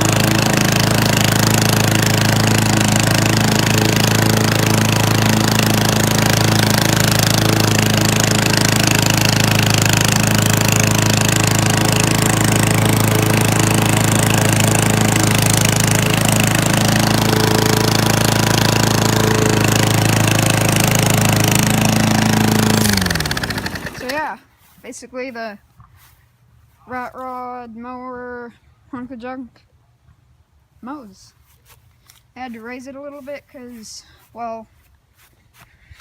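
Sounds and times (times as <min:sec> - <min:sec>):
lawnmower engine running: 0:00.0 - 0:26.2, 0:31.4 - 0:35.6.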